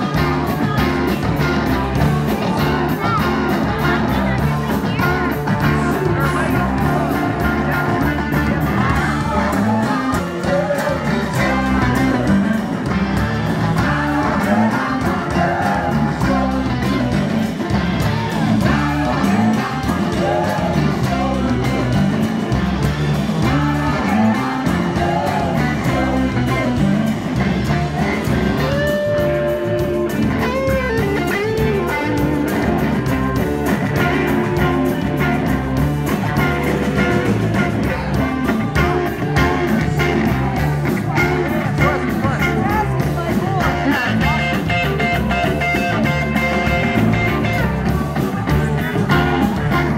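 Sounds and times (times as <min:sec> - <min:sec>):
electric guitar: 0:00.0 - 0:49.9
live rock band playing: 0:00.0 - 0:49.9
person singing: 0:00.0 - 0:49.9.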